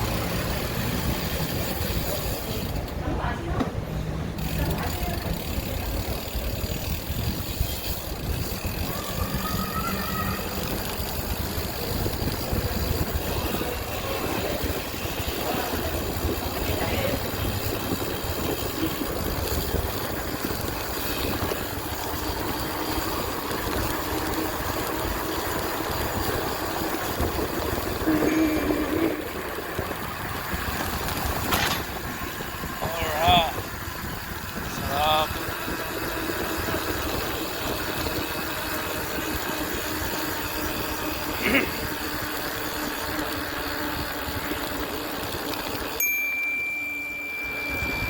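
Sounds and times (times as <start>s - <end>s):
bicycle tyre noise: 0.0s - 48.0s
wind rushing over microphone: 5.2s - 45.9s.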